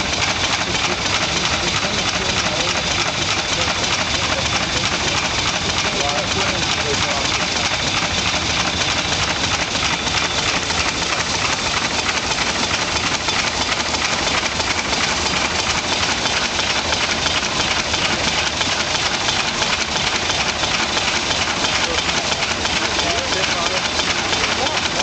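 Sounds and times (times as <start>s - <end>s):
steam pump engine beating: 0.0s - 25.0s.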